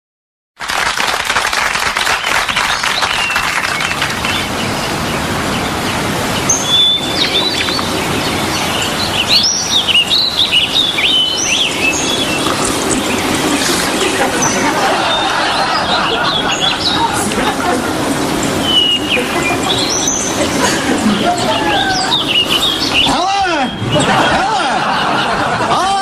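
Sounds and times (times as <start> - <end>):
outdoor background hiss: 0.7 - 26.0
birds chirping and singing: 2.7 - 25.2.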